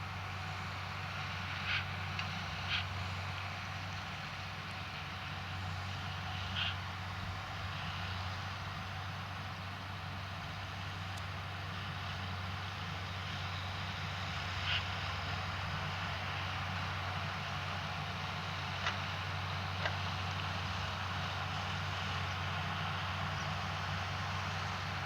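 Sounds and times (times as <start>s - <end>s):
harvester engine hum: 0.0s - 25.0s.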